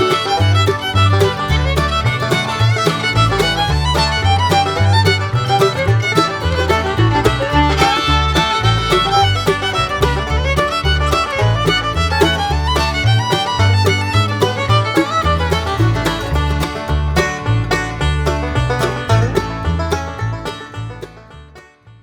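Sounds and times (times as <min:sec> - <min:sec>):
bluegrass fiddle tune: 0:00.0 - 0:22.0
pulsing bass line: 0:00.0 - 0:22.0.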